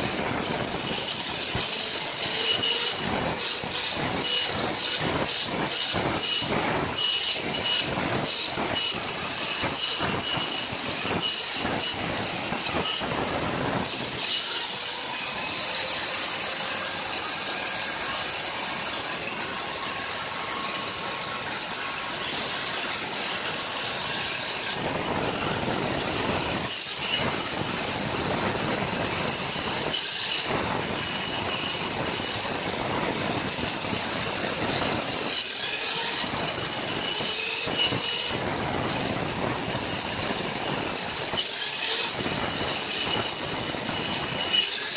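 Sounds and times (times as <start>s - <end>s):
angle grinder grinding stone: 0.0s - 44.9s.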